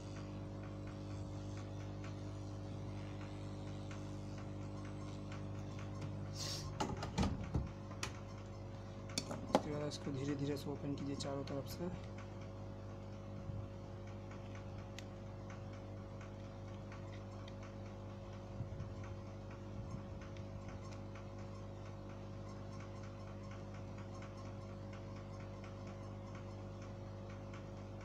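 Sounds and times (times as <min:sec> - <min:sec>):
faint regular ticking: 0:00.0 - 0:06.4, 0:07.7 - 0:28.0
steady electrical hum: 0:00.0 - 0:28.0.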